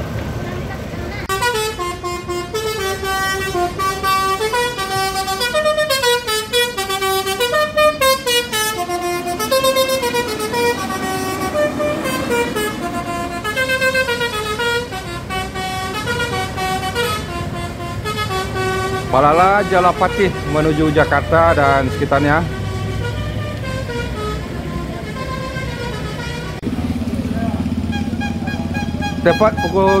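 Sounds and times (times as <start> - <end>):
bus engine rumble: 0.0 - 30.0
bus multi-tone horn tune: 1.2 - 26.7, 27.6 - 30.0.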